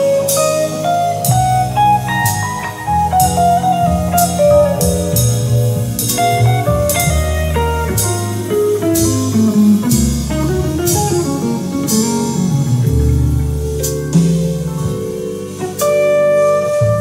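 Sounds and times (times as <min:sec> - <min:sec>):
deep bass: 0:00.0 - 0:17.0
guitar line: 0:00.0 - 0:17.0.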